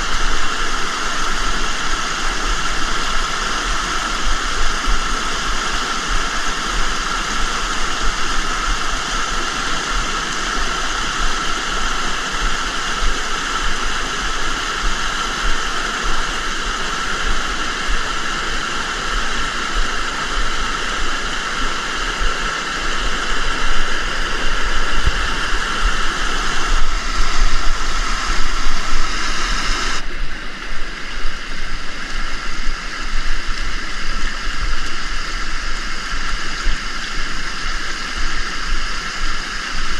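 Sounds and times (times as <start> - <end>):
fast-flowing river water: 0.0 - 39.9.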